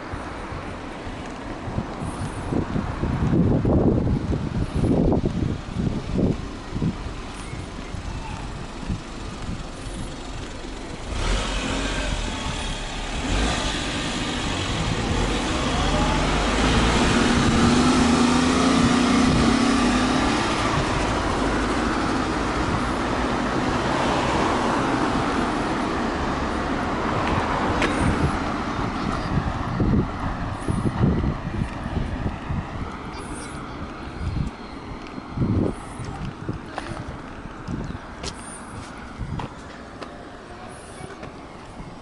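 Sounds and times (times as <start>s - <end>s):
cars and truck driving past: 1.7s - 36.2s.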